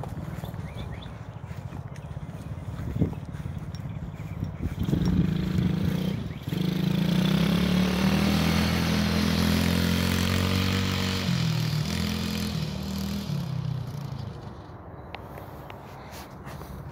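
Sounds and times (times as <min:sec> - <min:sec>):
atv engine running: 0:00.0 - 0:14.8.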